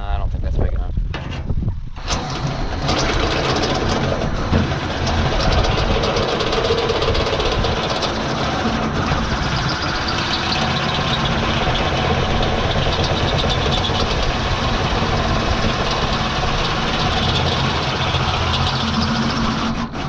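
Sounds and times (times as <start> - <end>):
power tool drilling sheet steel: 2.0 - 20.0.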